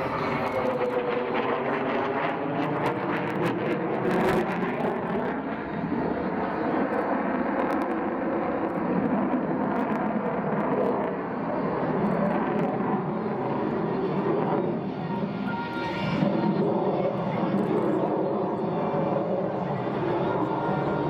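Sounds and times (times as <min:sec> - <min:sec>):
fighter jet flying overhead: 0:00.0 - 0:21.0.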